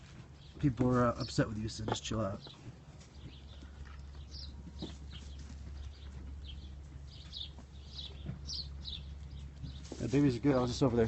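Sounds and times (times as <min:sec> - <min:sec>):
goat hooves knocking and scuffing: 0:00.0 - 0:11.0
steady low hum: 0:00.0 - 0:11.0.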